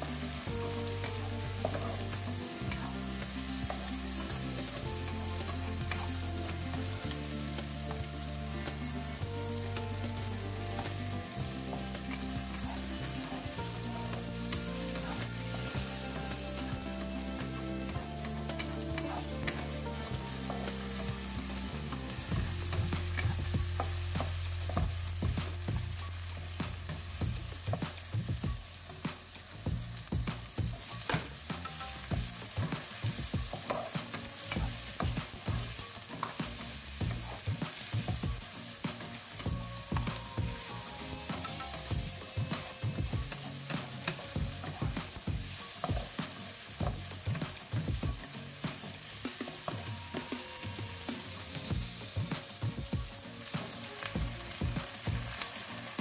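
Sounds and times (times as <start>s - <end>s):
spatula scraping wok: 0.0s - 56.0s
vegetables sizzling in oil: 0.0s - 56.0s.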